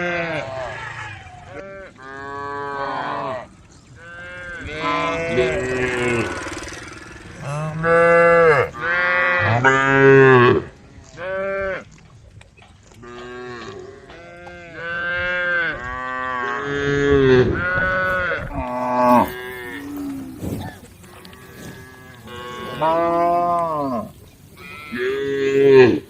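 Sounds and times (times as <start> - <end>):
cows mooing: 0.0 - 11.9, 13.0 - 26.0.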